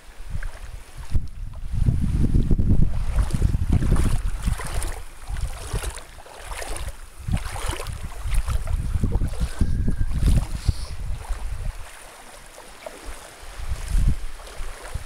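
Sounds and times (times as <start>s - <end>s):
wind buffeting microphone: 0.0s - 12.1s, 12.9s - 15.0s
seawater sloshing and splashing: 2.5s - 15.0s.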